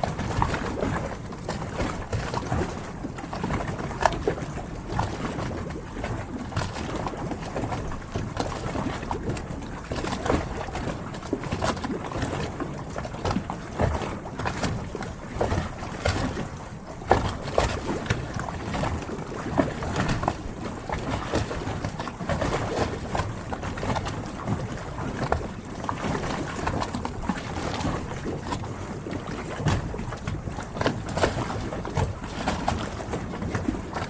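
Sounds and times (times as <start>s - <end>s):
constant wash of water: 0.0s - 34.0s
water lapping against boat hulls: 0.0s - 34.0s.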